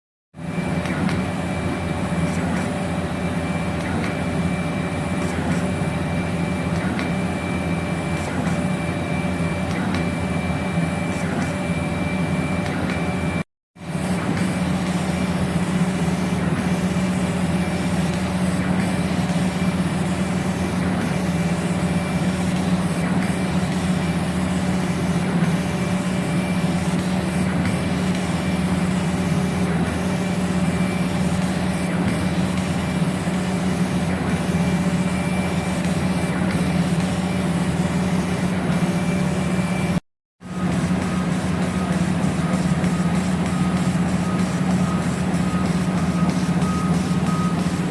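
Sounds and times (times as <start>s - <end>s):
laser engraving machine humming: 0.4s - 47.9s.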